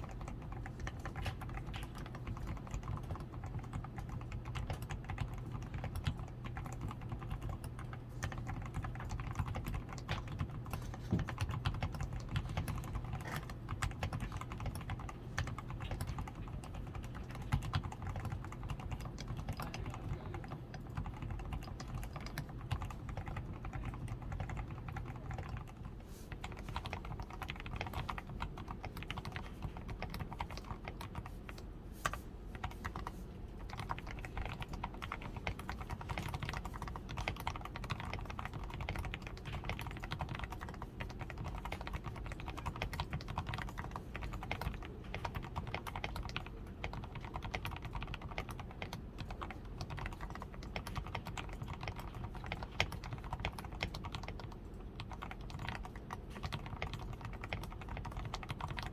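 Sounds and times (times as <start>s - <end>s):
low background hum: 0.0s - 58.9s
mechanical keyboard typing: 0.0s - 58.9s.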